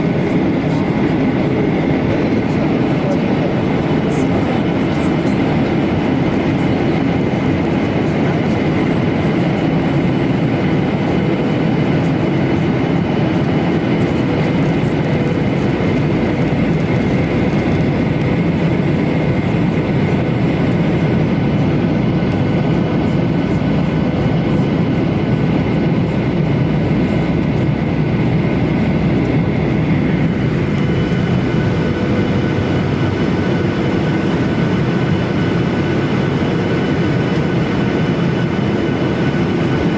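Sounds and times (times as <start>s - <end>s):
airplane cabin air rush: 0.0s - 10.1s, 10.8s - 39.9s
turbofan whining tones: 0.0s - 39.9s.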